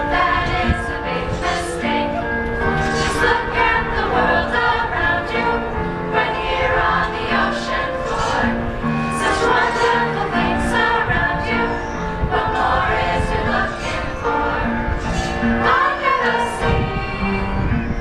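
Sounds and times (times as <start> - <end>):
children's choir singing: 0.0 - 18.0.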